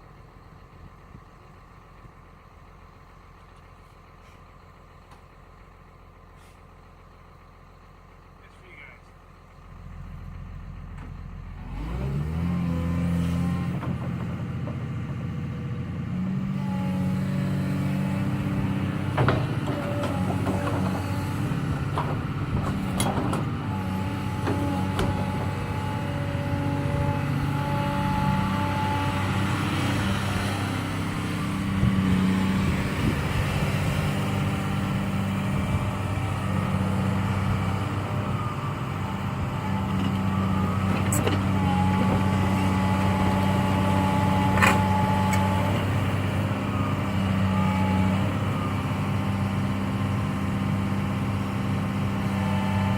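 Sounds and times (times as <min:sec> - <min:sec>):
excavator diesel engine revving: 0:09.4 - 0:52.9.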